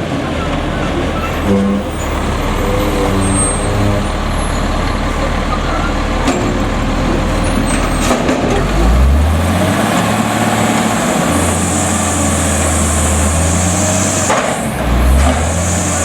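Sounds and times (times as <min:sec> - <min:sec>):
garbage truck diesel engine revving: 0:00.0 - 0:16.0.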